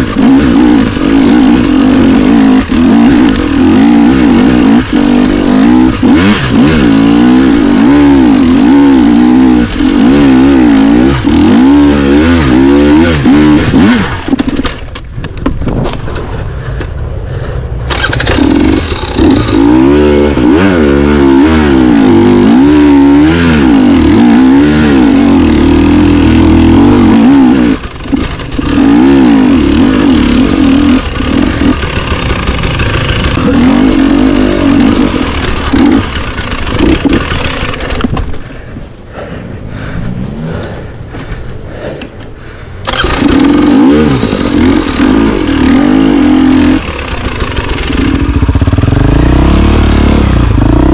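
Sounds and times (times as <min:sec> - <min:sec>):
dirt bike engine revving: 0:00.0 - 0:14.8, 0:17.9 - 0:39.4, 0:42.8 - 0:50.9.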